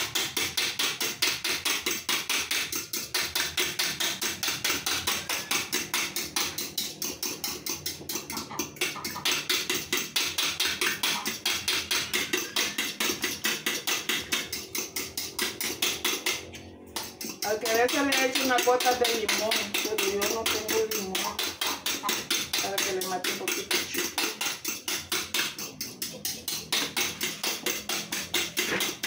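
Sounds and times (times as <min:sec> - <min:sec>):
eggs beaten in a bowl: 0:00.0 - 0:29.0.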